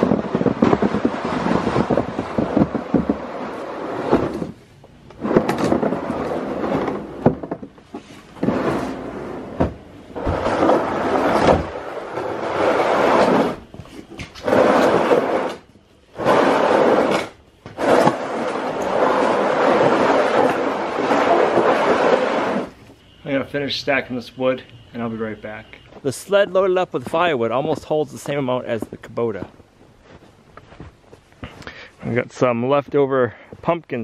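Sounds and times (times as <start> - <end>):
plastic sled scraping over snow: 0.0 - 24.3, 25.0 - 29.5.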